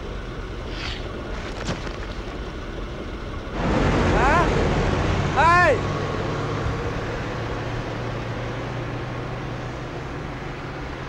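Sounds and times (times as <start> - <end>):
bus engine humming: 0.0 - 11.0
road noise: 0.0 - 11.0.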